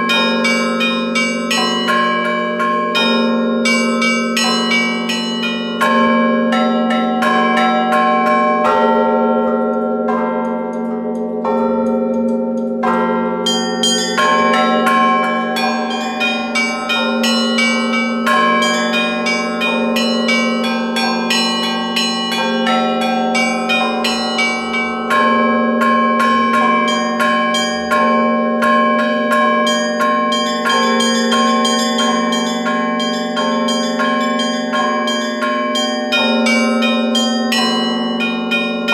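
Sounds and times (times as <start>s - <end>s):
small high-pitched bells pealing: 0.0s - 9.6s, 13.4s - 38.9s.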